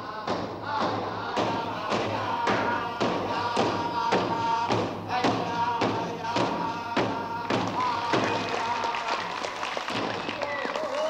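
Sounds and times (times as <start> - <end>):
group chanting: 0.0 - 9.5
frame drums beaten in unison: 0.0 - 10.4.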